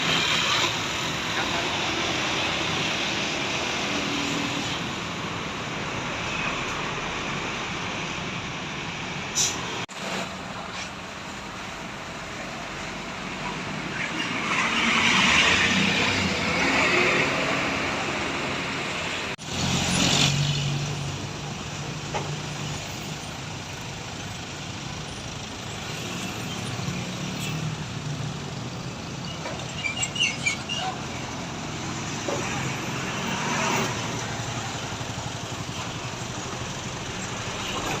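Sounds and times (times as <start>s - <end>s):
buses passing on a road: 0.0s - 38.0s.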